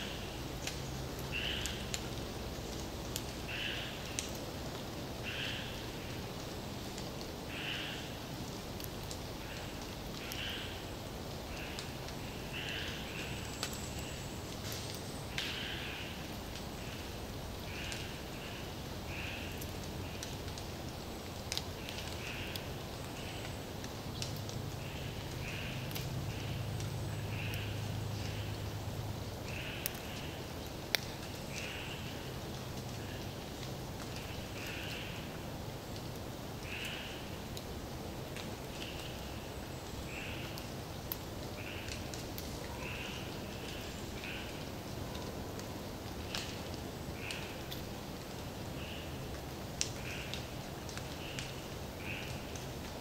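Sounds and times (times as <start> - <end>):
background hiss: 0.0 - 53.0.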